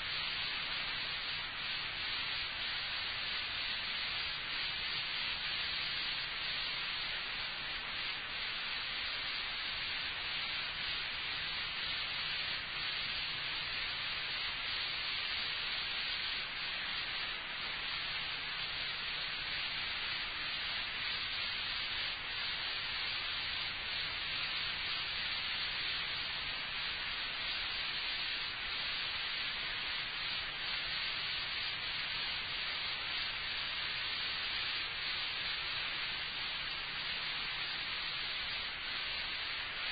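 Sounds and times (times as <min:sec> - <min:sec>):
recording hiss: 0:00.0 - 0:39.9.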